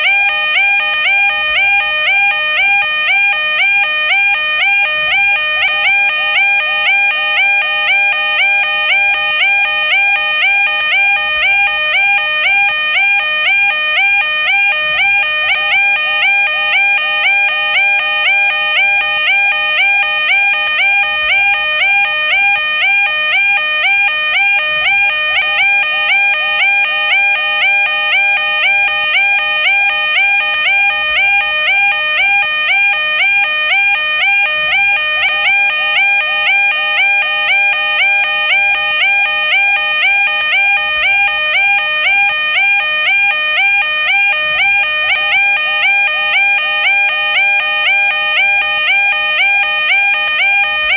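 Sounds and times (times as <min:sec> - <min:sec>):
two-tone crossing alarm bell: 0:00.0 - 0:50.9.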